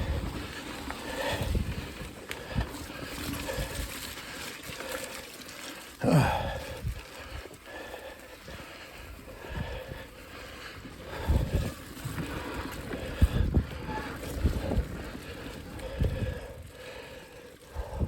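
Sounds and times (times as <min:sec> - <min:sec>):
bike tyres rolling on dirt: 0:00.0 - 0:18.0.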